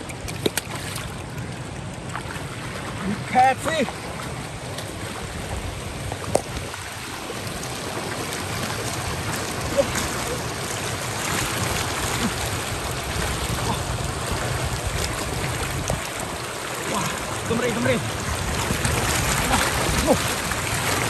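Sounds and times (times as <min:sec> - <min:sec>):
flowing water rushing: 0:00.0 - 0:21.0.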